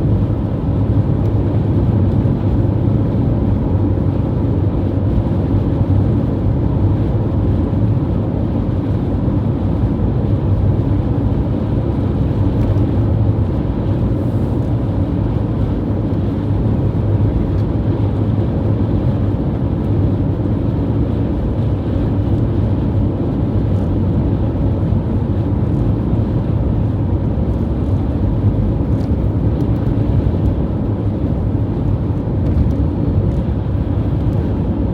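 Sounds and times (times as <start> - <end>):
strong wind rumble: 0.0 - 34.9.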